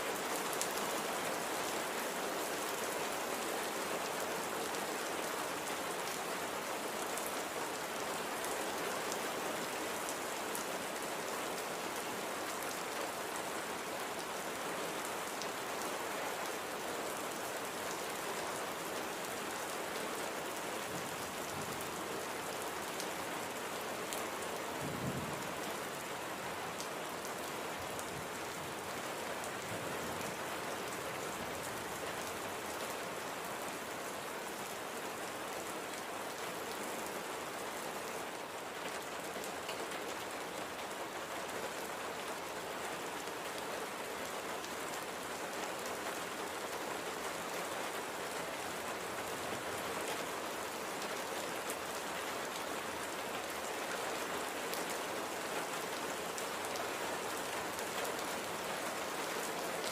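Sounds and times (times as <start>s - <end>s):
gentle rain hiss: 0.0s - 59.9s.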